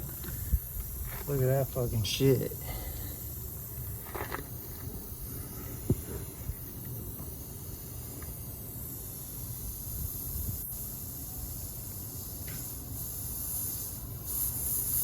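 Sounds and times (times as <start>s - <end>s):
air hissing from tire: 0.0s - 15.0s.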